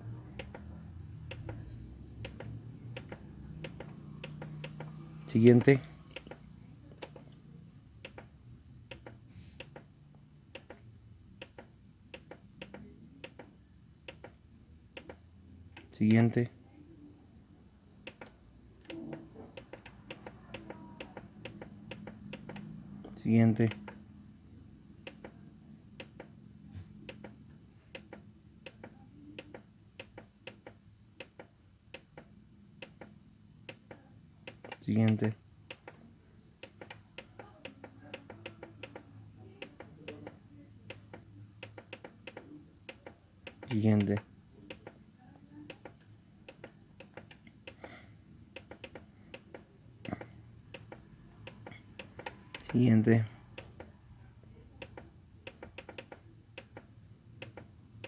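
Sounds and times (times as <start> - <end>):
synthesizer buttons clicking: 0.3 - 7.4, 8.0 - 9.9, 10.5 - 16.2, 18.0 - 22.8, 25.0 - 25.4, 26.0 - 26.4, 27.0 - 45.0, 45.6 - 52.8, 53.5 - 54.0, 54.7 - 58.0.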